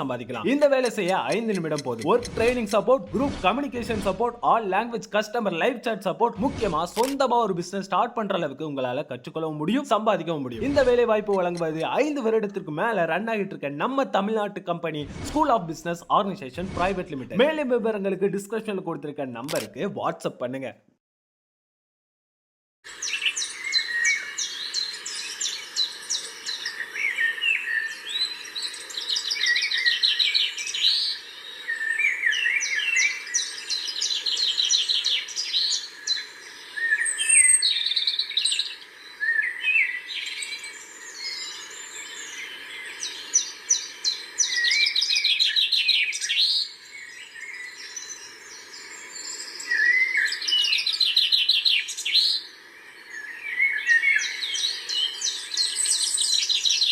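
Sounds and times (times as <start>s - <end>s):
birds chirping and trilling: 0.0s - 19.9s, 22.9s - 56.9s.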